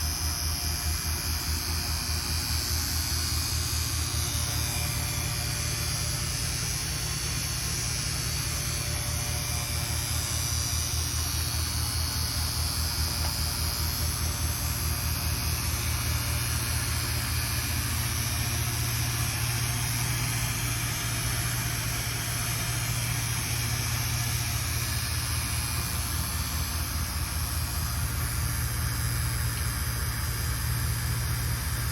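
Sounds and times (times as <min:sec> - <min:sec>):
vacuum pump pulsing hum: 0:00.0 - 0:31.9.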